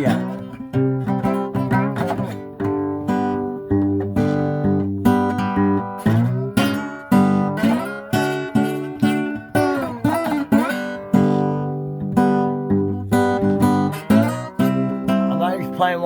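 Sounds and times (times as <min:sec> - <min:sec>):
acoustic guitar blues picking: 0:00.0 - 0:16.0.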